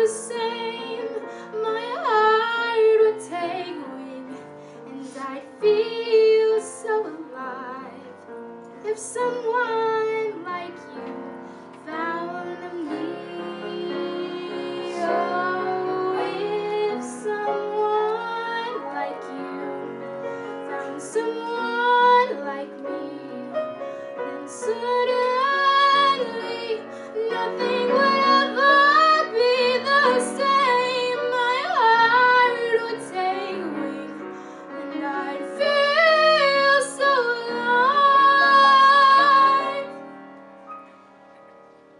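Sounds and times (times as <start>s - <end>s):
woman singing a ballad: 0.0s - 8.2s, 8.8s - 11.2s, 11.8s - 19.9s, 20.7s - 23.6s, 24.3s - 40.0s
grand piano: 0.0s - 41.9s.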